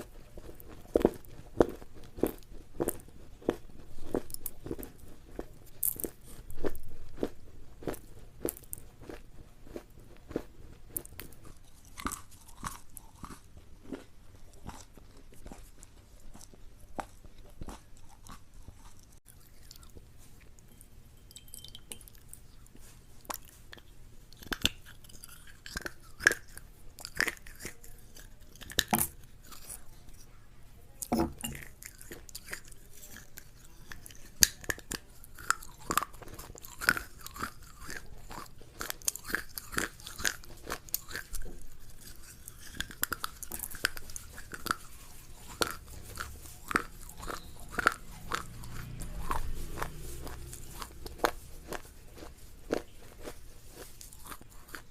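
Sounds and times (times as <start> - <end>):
person chewing crunchy food: 0.0 - 30.3, 31.0 - 54.9.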